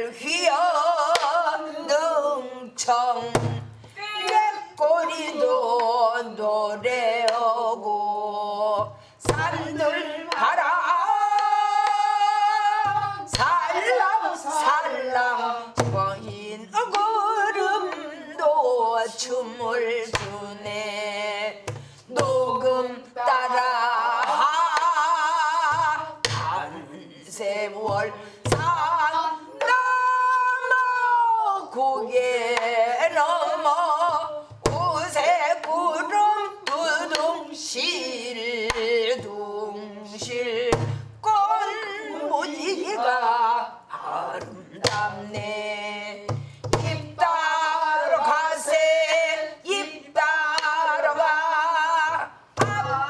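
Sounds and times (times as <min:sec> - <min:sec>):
woman singing folk song: 0:00.0 - 0:53.0.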